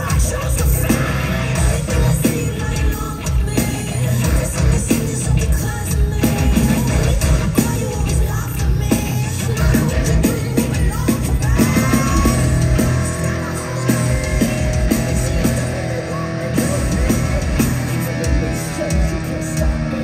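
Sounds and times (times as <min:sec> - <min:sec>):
live heavy metal band: 0:00.0 - 0:20.0.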